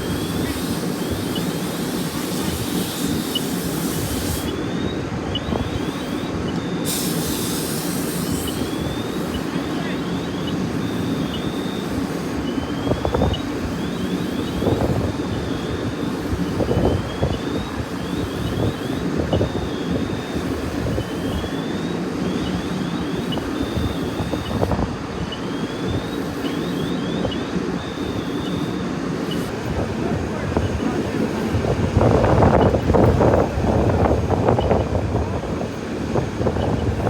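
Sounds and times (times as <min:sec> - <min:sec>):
vehicle engines rumbling: 0:00.0 - 0:37.0
wind on microphone: 0:00.0 - 0:37.0.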